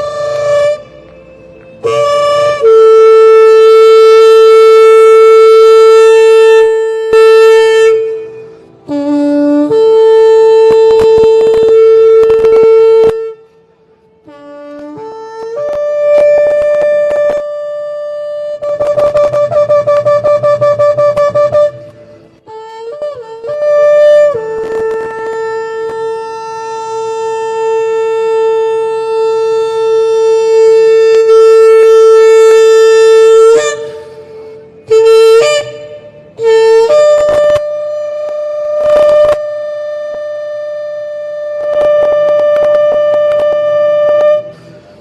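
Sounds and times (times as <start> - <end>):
ram's horn blasts: 0.0 - 45.0.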